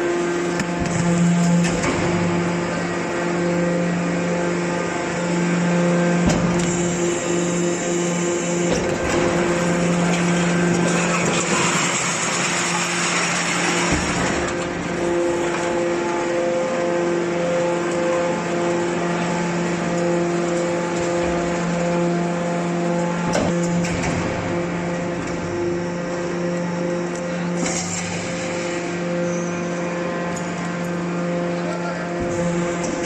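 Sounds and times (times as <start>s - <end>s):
hydraulic baler motor hum: 0.0s - 33.0s.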